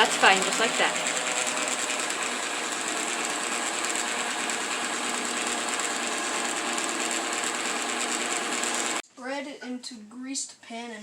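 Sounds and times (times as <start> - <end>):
electric mixer whirring: 0.0 - 9.0.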